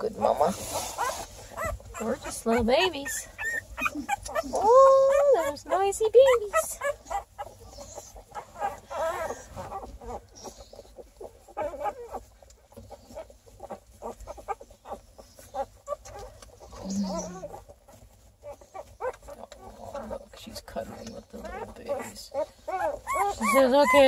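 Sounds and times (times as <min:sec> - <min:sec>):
puppies squeaking and whining: 0:00.0 - 0:24.0.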